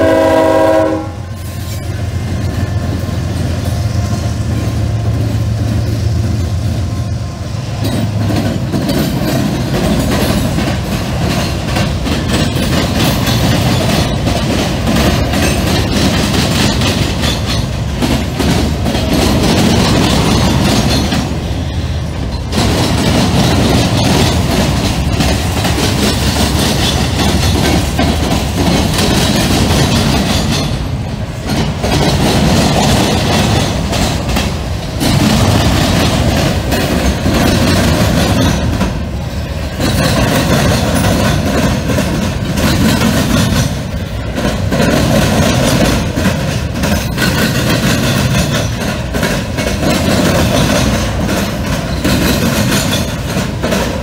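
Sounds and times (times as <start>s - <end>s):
diesel locomotive engines droning: 0.0s - 54.0s
train wheels clicking over rail joints: 0.0s - 54.0s.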